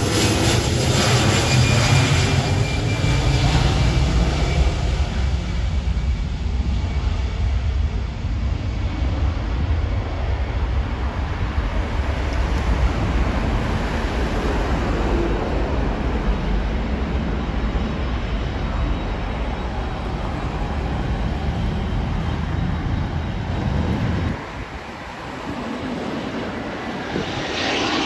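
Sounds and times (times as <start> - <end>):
aircraft engines rumbling: 0.0 - 28.0.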